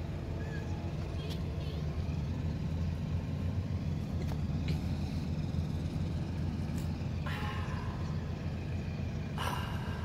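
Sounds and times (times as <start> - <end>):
motor rumbling: 0.0 - 10.0.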